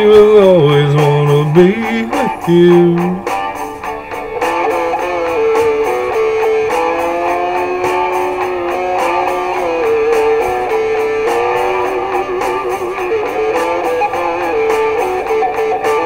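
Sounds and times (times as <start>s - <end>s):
sliding lead guitar notes: 0.0s - 16.0s
strummed guitar: 0.0s - 16.0s.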